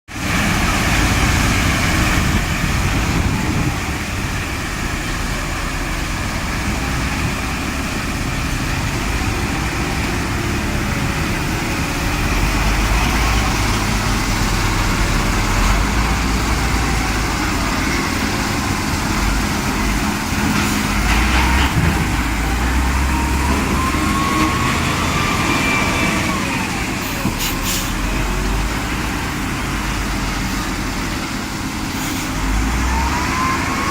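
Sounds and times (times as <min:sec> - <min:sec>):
machinery low rumble: 0:00.2 - 0:33.9.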